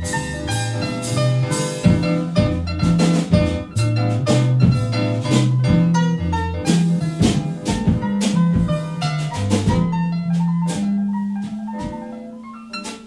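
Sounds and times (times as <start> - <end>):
bass line: 0.0 - 12.0
drum kit beats: 0.0 - 13.0.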